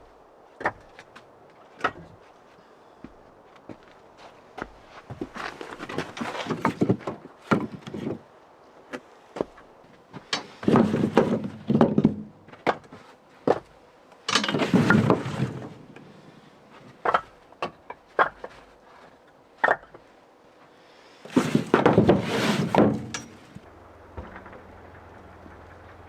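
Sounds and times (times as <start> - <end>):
firewood logs clattering: 0.5 - 2.4, 3.6 - 8.3, 8.9 - 20.1, 21.2 - 26.0.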